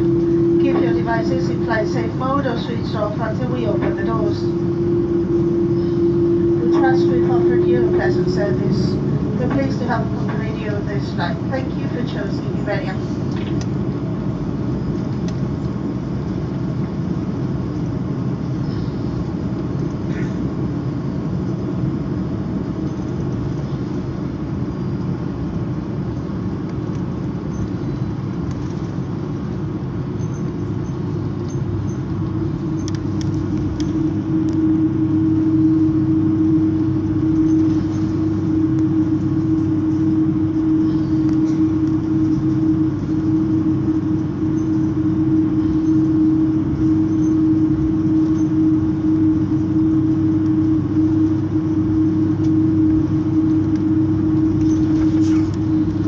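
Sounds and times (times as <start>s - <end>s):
airliner engine rumble: 0.0s - 56.0s
droning hum: 0.0s - 56.0s.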